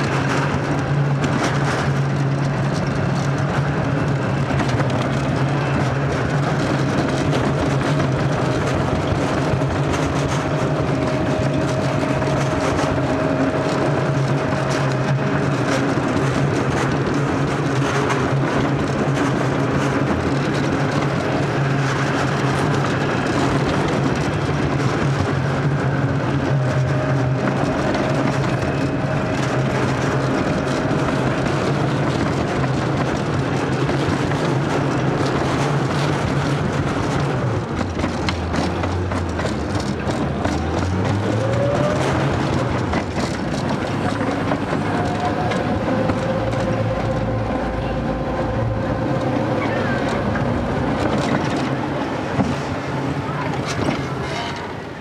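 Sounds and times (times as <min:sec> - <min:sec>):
sled wheels rumbling in metal channel: 0:00.0 - 0:55.0.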